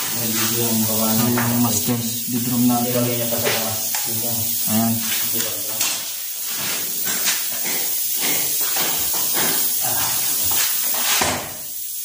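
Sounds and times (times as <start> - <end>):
uneven hissing: 0.0 - 12.0.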